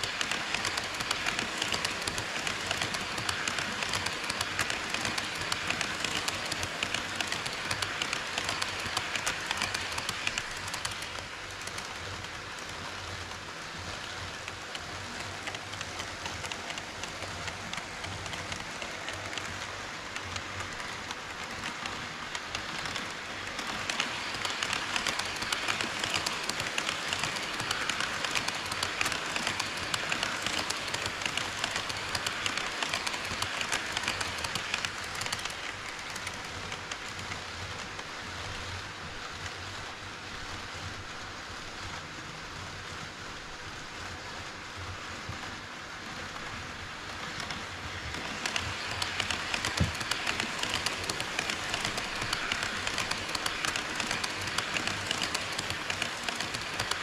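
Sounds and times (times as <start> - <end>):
model train wheels clattering: 0.0 - 38.2, 45.3 - 57.0.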